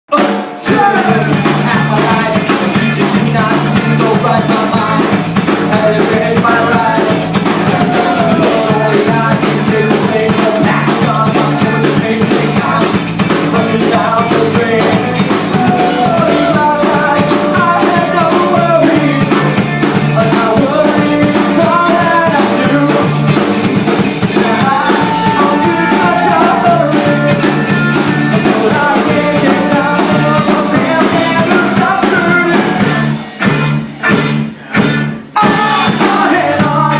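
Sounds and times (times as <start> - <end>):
drum kit beat: 0.1 - 36.9
loud rock music: 0.1 - 36.9.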